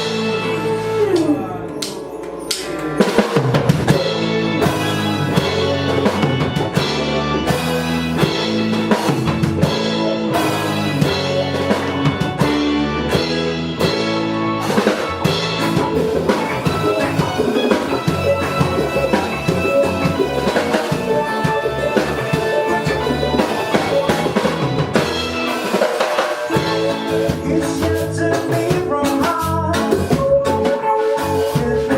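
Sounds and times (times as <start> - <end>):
music with drum kit: 0.0 - 31.9.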